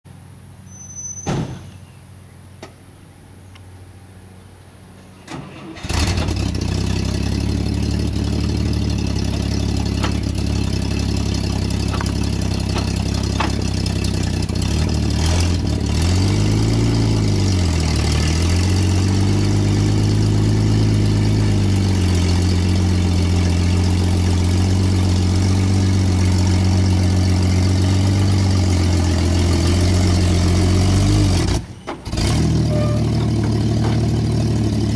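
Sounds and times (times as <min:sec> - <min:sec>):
engine starting and running: 0:05.0 - 0:34.9.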